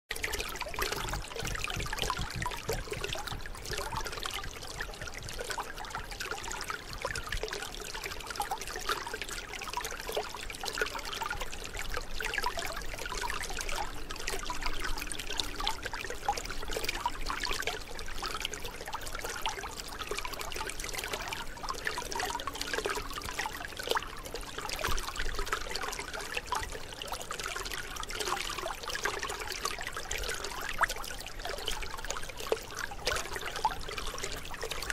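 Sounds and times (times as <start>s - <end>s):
small water splashes: 0.1s - 34.9s
water trickling: 0.1s - 34.9s.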